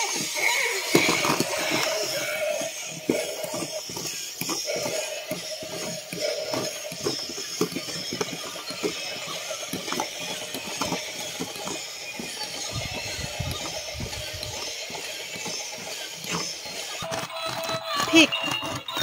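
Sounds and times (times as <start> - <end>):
toy motor clicking and rattling: 0.0 - 19.0.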